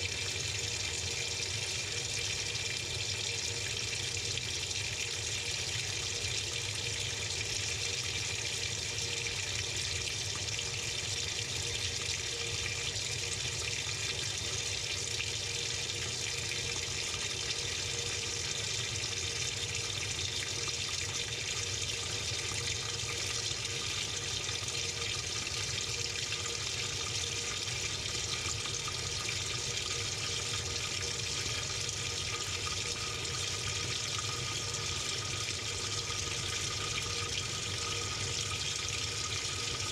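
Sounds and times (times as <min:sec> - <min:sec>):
faint steady hum: 0:00.0 - 0:39.9
water running into washing machine: 0:00.0 - 0:39.9.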